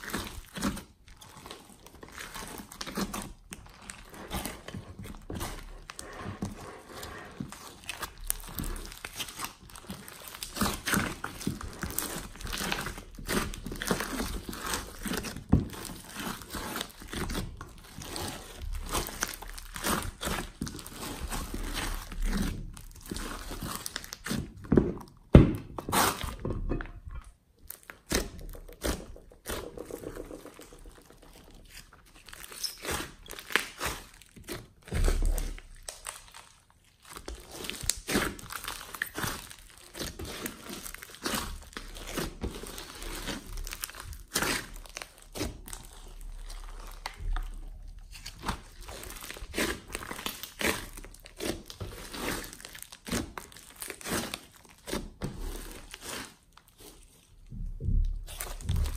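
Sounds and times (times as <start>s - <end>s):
slime crackling and squishing: 0.0s - 58.9s.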